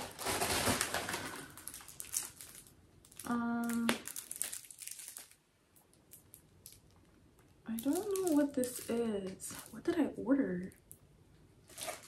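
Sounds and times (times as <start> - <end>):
plastic wrapping crinkling: 0.0 - 9.8, 11.6 - 12.0.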